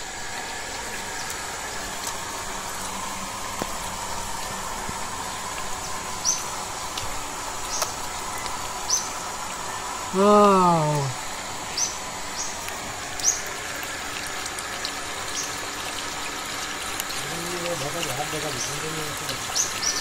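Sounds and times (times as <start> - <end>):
outdoor hiss and hum: 0.0 - 20.0.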